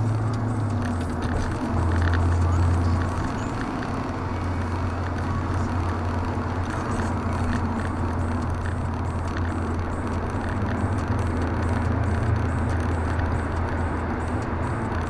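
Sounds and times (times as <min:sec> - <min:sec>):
car engine drone: 0:00.0 - 0:15.0
tyre and road noise: 0:00.0 - 0:15.0.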